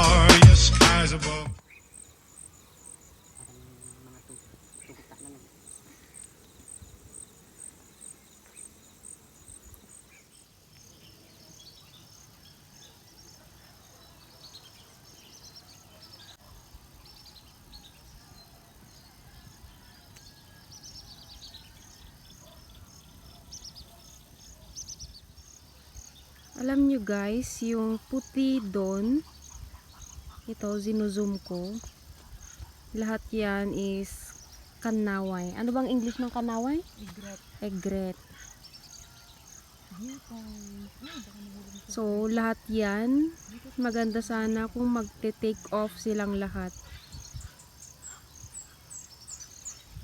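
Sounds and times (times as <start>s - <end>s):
insects chirping: 1.3s - 50.0s.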